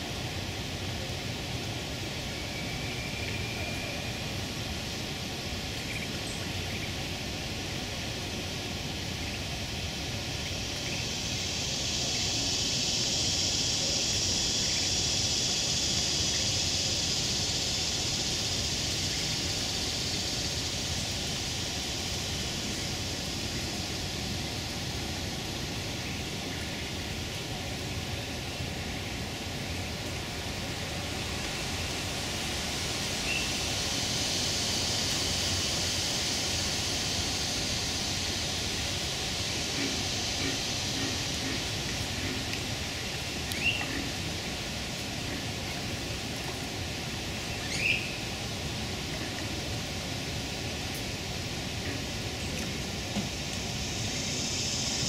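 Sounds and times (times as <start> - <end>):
insects buzzing: 0.0 - 55.0
steady outdoor hiss: 0.0 - 55.0.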